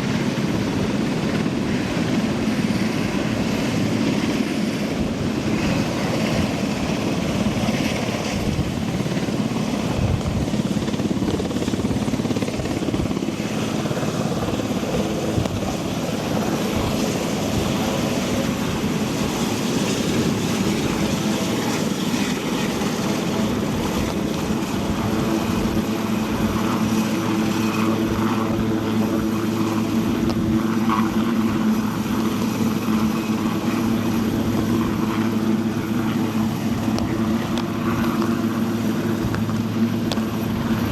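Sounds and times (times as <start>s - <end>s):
helicopter rotor and turbine drone: 0.0s - 40.9s.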